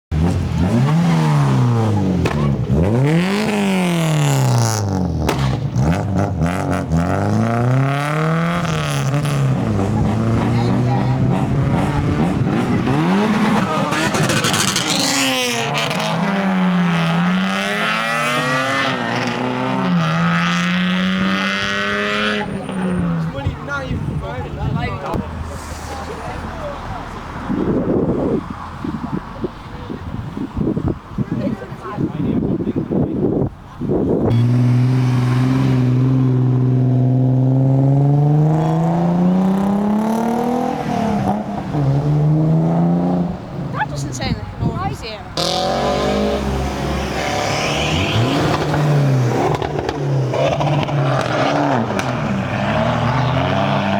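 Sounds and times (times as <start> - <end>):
car engine revving: 0.1 - 23.8, 34.0 - 53.9.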